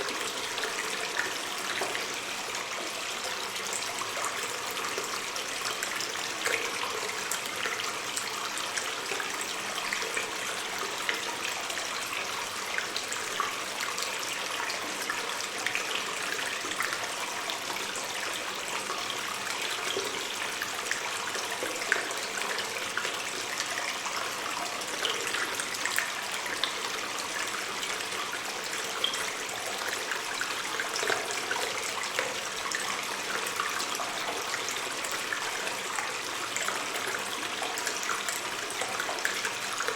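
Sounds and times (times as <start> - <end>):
water splashes and drips: 0.0 - 39.9
water stream rushing in a cave: 0.0 - 39.9.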